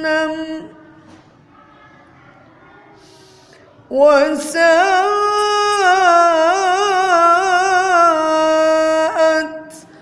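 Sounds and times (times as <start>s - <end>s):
woman reciting melodically: 0.0s - 1.1s, 2.9s - 10.0s.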